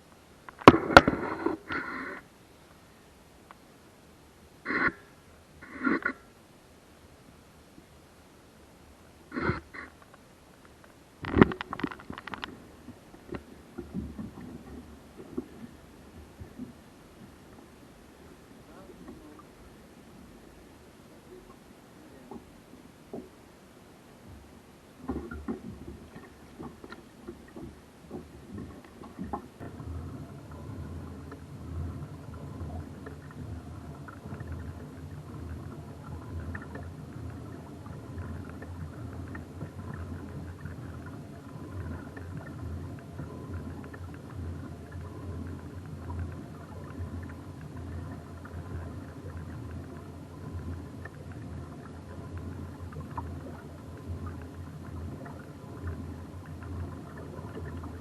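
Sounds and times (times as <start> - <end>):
boat engine rumble: 0.0 - 58.0.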